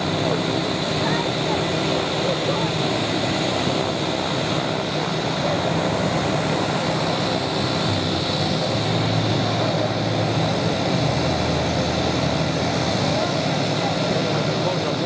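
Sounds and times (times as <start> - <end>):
high turbine whine: 0.0 - 15.0
turboprop engine idling: 0.0 - 15.0.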